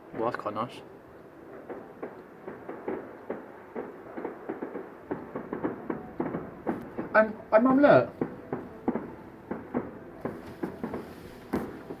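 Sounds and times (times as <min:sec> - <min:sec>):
distant fireworks popping: 0:00.0 - 0:12.0.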